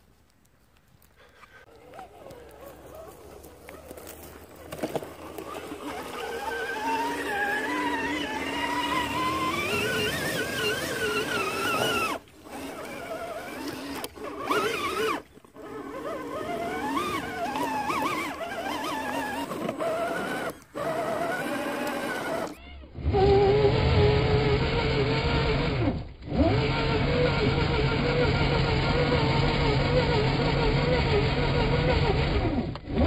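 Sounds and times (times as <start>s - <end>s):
electric motor whining: 1.4s - 33.0s.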